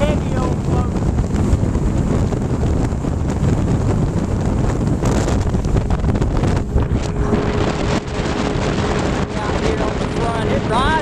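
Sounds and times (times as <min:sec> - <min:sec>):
outboard motor at speed: 0:00.0 - 0:11.0
water rushing along hull: 0:00.0 - 0:11.0
wind buffeting microphone: 0:00.0 - 0:11.0.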